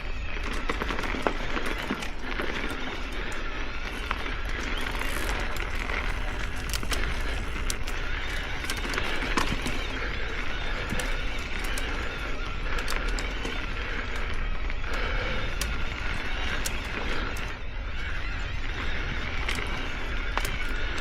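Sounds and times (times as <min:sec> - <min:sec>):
bike clicks and rattles: 0:00.0 - 0:21.0
bike tyres rumbling on dirt: 0:00.0 - 0:21.0.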